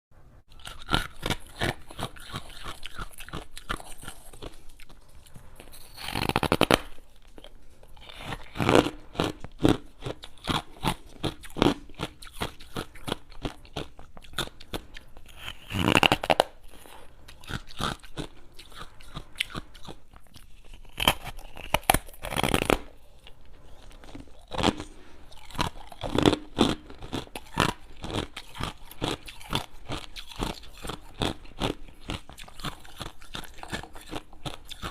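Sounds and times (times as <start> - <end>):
crunching and chewing ice: 0.5 - 34.9.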